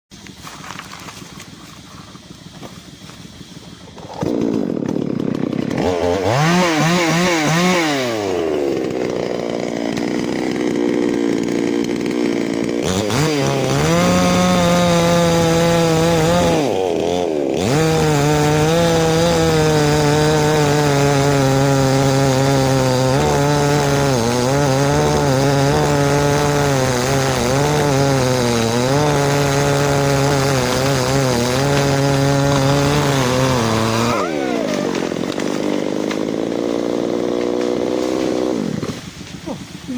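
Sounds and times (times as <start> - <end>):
chainsaw revving and cutting wood: 0.2 - 39.9.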